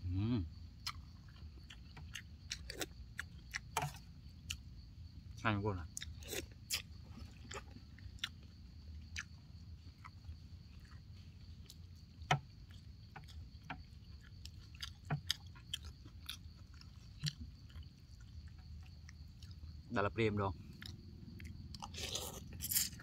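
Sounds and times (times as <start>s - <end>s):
person chewing: 0.2s - 4.7s, 5.9s - 19.9s, 20.6s - 23.0s.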